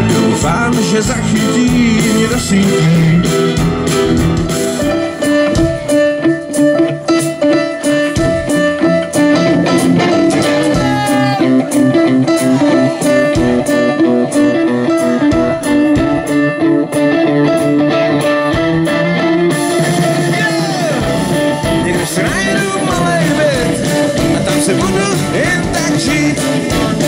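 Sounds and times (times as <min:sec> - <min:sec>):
guitar: 0:00.0 - 0:27.0
live band playing pop-rock: 0:00.0 - 0:27.0.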